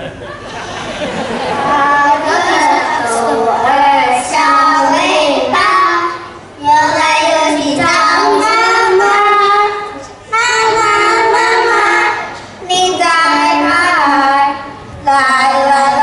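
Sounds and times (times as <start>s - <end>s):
young children singing: 1.2s - 16.0s.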